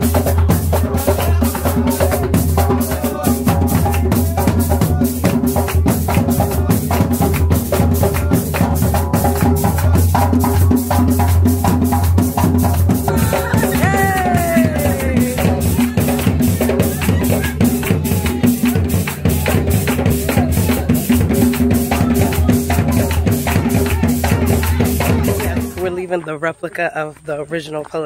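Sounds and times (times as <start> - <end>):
shaker: 0.0 - 25.9
hand drums: 0.0 - 26.0
voices singing: 0.0 - 27.8.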